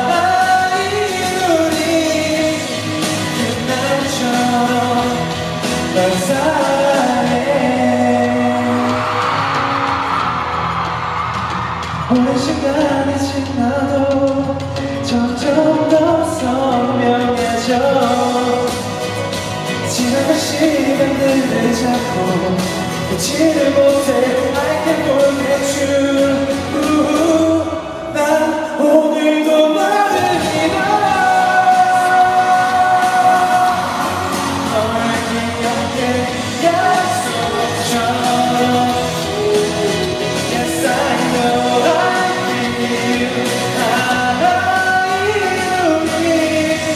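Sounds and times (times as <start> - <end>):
man singing into microphone: 0.0 - 10.2, 11.9 - 46.9
instrumental accompaniment: 0.0 - 46.9.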